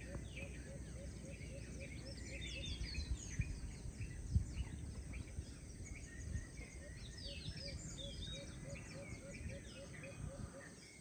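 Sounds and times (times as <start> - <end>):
birds chirping and twittering: 0.0 - 11.0.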